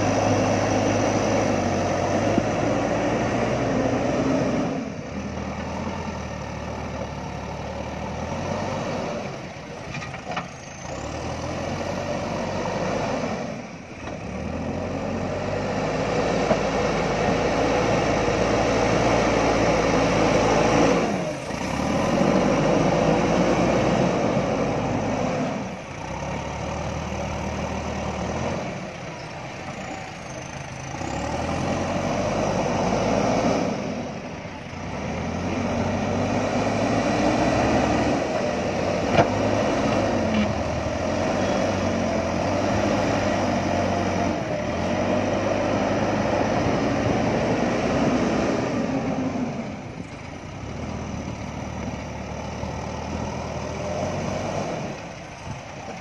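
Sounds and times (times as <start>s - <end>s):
diesel engine working under load: 0.0s - 56.0s.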